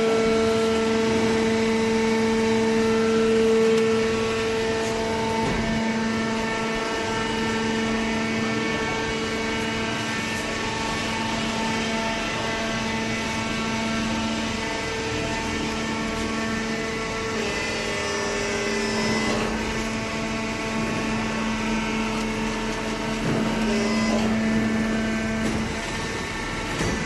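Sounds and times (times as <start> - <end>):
baler machine hum: 0.0 - 27.0.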